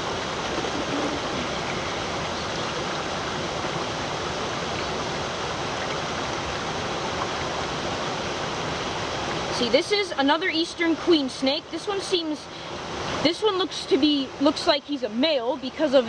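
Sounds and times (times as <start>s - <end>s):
creek water rushing over rock: 0.0s - 16.0s.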